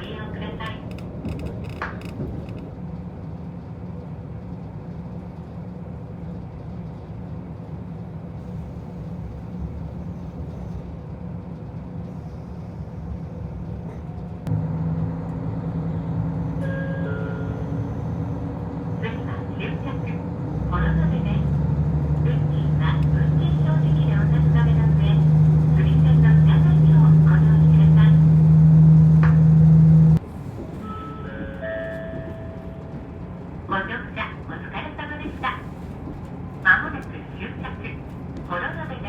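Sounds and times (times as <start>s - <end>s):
railcar interior rumble: 0.0s - 39.0s.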